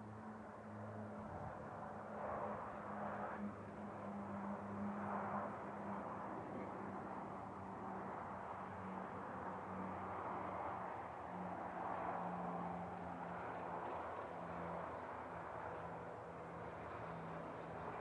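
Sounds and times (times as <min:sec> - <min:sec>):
diesel locomotive engine drone: 0:00.0 - 0:18.0
road traffic: 0:00.0 - 0:18.0.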